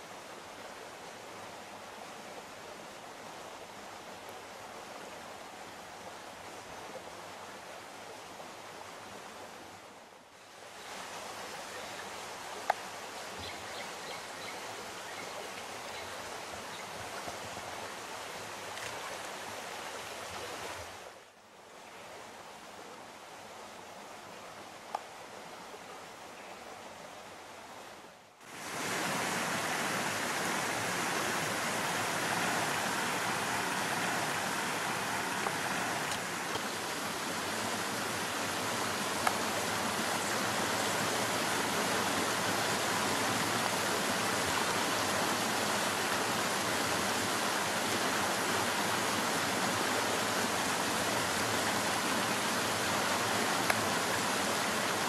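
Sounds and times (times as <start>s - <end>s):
creek water rushing over rocks: 0.0s - 55.0s
quiet water hiss: 0.0s - 55.0s.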